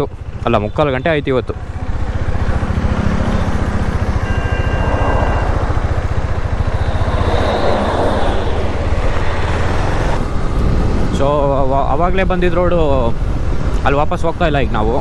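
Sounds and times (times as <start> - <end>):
vehicle road noise: 0.0 - 15.0.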